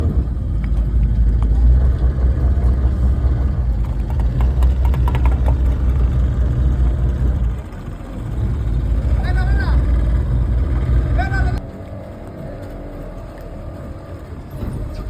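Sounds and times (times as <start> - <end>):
speedboat engine rumble: 0.0 - 15.0.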